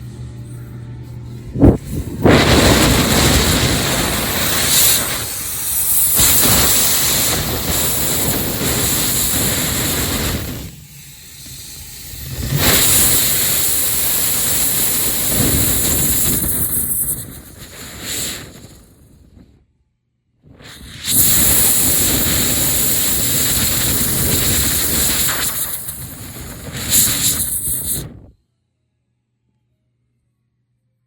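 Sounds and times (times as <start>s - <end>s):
hand dryer blowing with whine: 0.0s - 19.6s, 20.5s - 28.3s.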